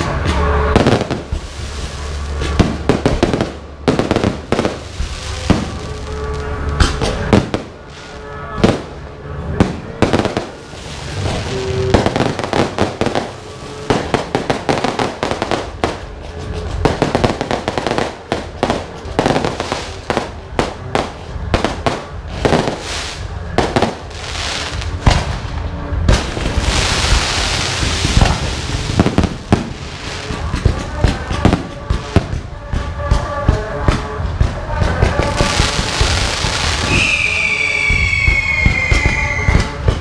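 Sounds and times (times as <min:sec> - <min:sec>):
fireworks bangs and crackle: 0:00.0 - 0:40.0.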